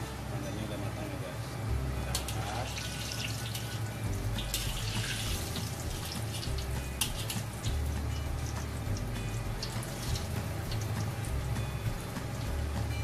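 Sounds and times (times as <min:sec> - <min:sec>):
hot oil sizzling in a wok: 0:01.8 - 0:13.0.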